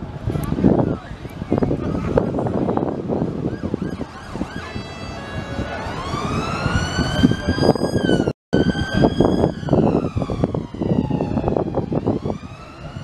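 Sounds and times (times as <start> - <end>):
street traffic: 0.0 - 13.0
emergency siren wailing: 2.3 - 13.0.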